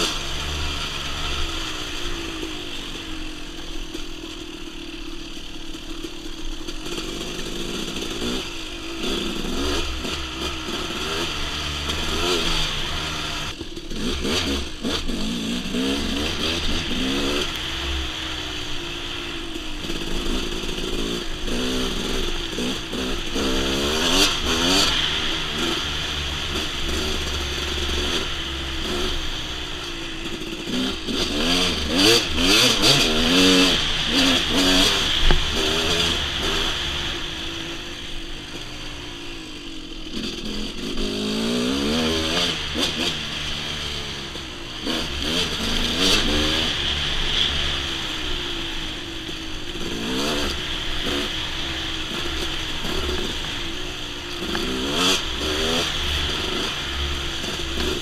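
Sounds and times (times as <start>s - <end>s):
clatter: 0.0s - 39.0s, 48.9s - 58.0s
dirt bike engine revving: 0.0s - 58.0s.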